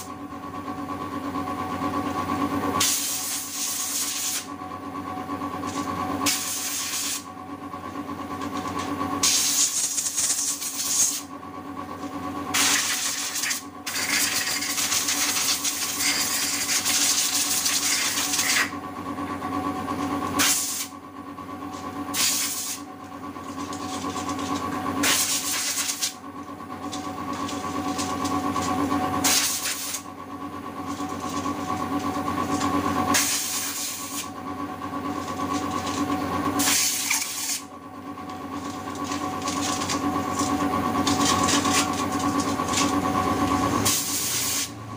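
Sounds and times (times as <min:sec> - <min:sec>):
machine hum: 0:00.0 - 0:44.9.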